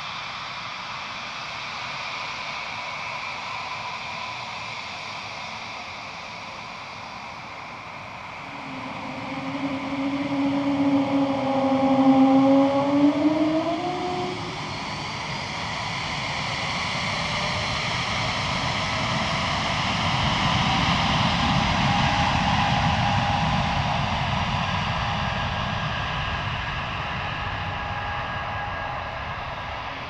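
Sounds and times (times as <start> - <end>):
jet engines whining while taxiing: 0.0 - 30.0.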